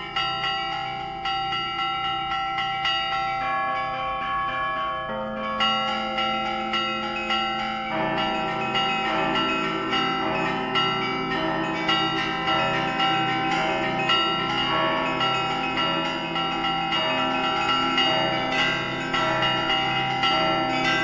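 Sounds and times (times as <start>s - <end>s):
deep church bells ringing: 0.0s - 21.0s
small church bells ringing quickly: 0.0s - 21.0s.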